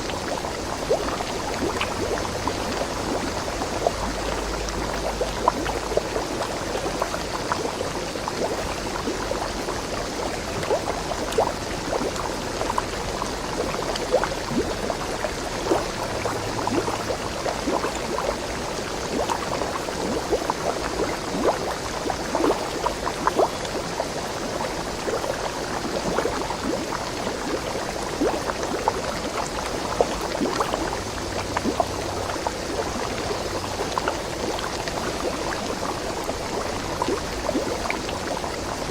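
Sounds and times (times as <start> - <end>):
stream water over rocks: 0.0 - 38.9.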